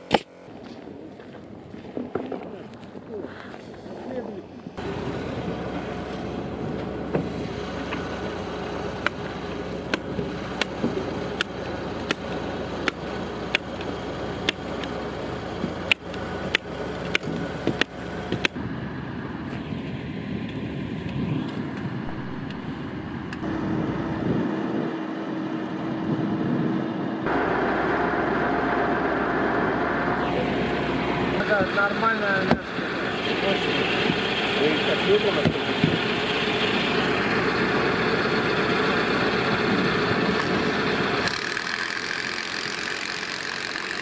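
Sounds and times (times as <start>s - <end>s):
steady hum: 0.0s - 44.0s
truck engine running: 0.0s - 44.0s.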